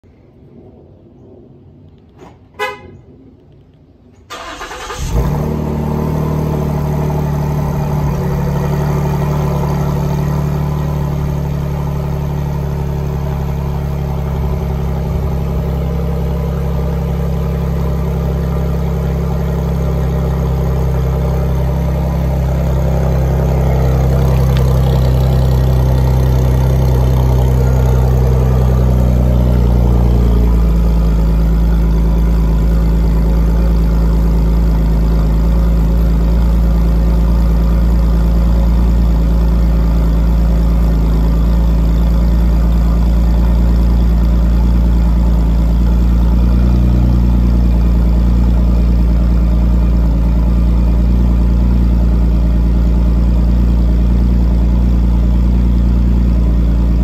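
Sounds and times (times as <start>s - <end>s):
car engine cranking and starting: 4.2s - 57.0s
car engine idling: 4.3s - 57.0s.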